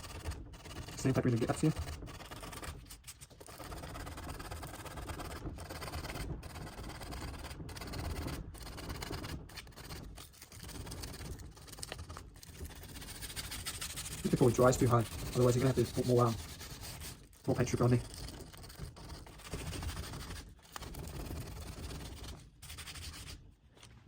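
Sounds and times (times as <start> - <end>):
sandpaper rubbing on wood: 0.0 - 23.4.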